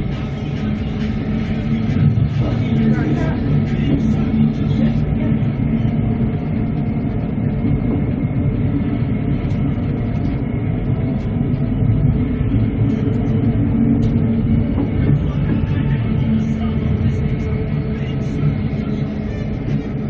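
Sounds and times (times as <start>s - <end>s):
train rumble inside carriage: 0.0s - 20.0s.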